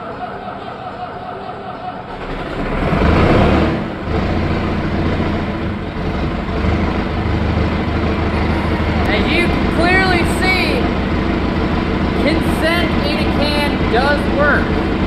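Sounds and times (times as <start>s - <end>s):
diesel tractor engine starting: 1.9s - 15.0s.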